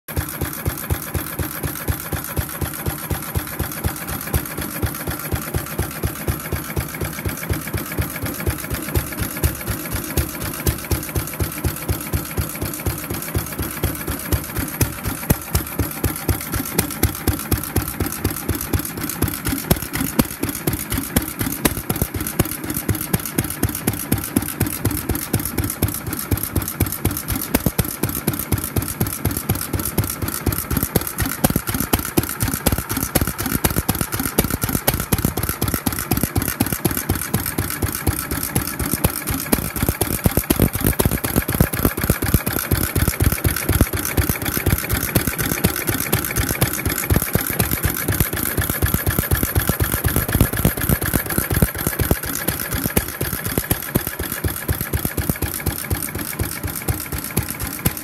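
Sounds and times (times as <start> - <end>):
stationary engine pulsing: 0.1 - 58.0.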